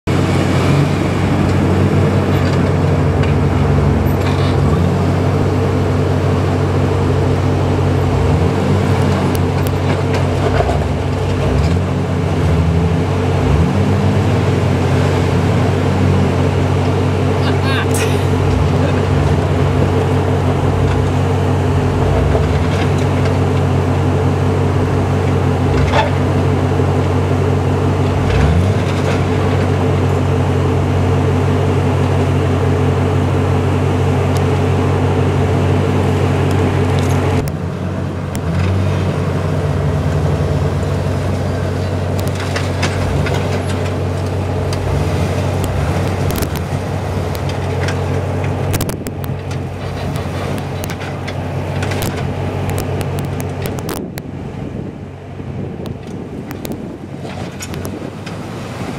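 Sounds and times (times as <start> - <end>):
off-road vehicle engine at low revs: 0.0 - 58.9.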